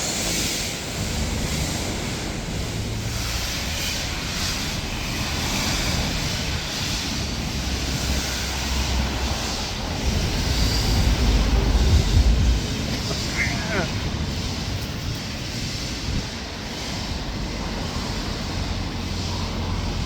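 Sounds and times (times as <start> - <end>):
steam hiss: 0.0 - 20.0
steam train rumbling past: 0.0 - 20.0
wind noise on microphone: 0.0 - 20.0.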